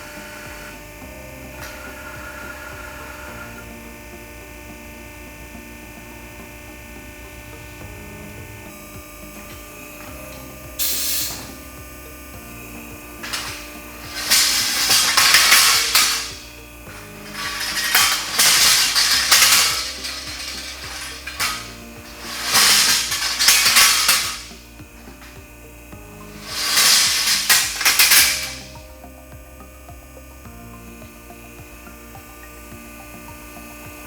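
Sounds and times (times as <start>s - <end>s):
machine hum: 0.0s - 34.0s
rattling mechanical bursts: 0.0s - 34.0s.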